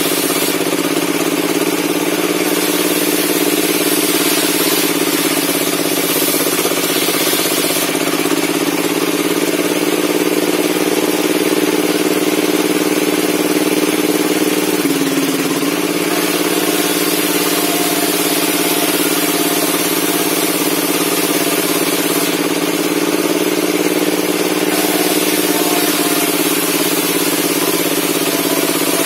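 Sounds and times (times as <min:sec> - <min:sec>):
circular saw humming: 0:00.0 - 0:29.0.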